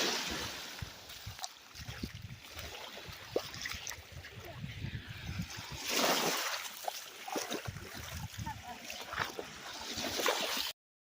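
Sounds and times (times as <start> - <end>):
bare footsteps sloshing in water: 0.0 - 4.5, 5.4 - 10.7.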